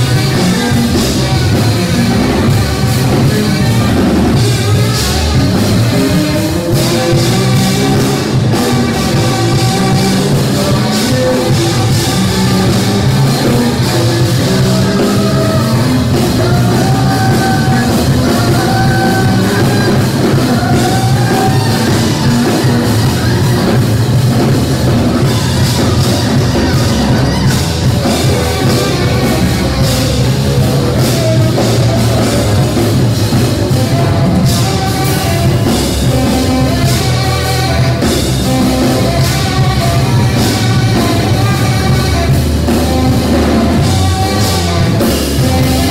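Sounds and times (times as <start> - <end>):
drum kit with cymbals: 0.0 - 45.9
electric bass: 0.0 - 45.9
tenor saxophone: 0.0 - 45.9.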